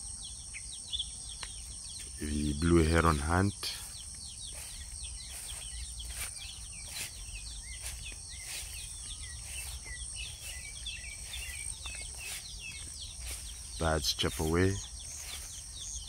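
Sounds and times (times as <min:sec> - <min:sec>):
insects trilling: 0:00.0 - 0:16.0
small birds chirping: 0:00.0 - 0:16.0.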